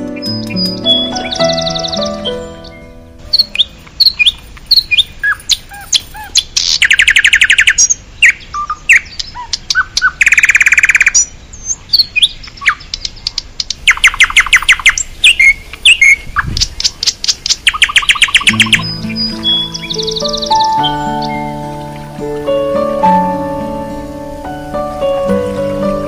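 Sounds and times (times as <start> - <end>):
songbirds chirping: 0.0 - 26.0
bird rapid trill: 0.2 - 11.3, 12.0 - 22.5.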